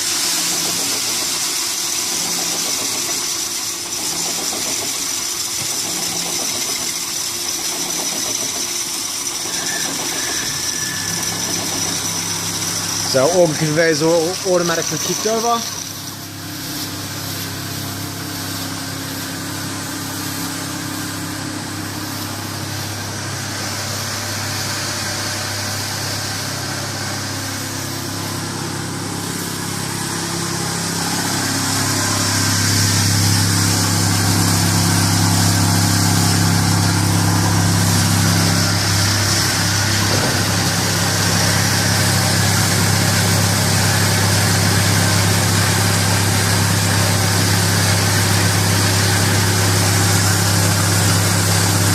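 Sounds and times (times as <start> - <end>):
conveyor machinery humming: 10.2 - 51.9.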